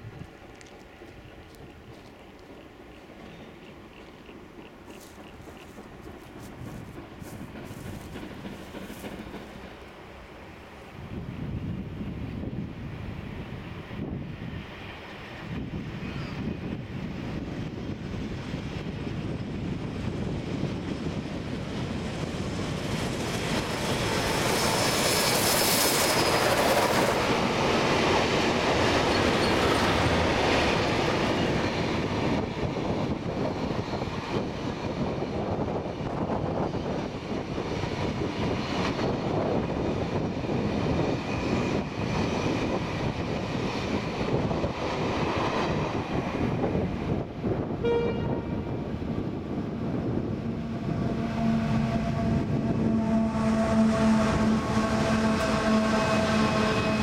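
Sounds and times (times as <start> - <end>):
carriages rolling on rails: 0.0 - 47.8, 48.6 - 57.0
locomotives passing: 0.0 - 57.0.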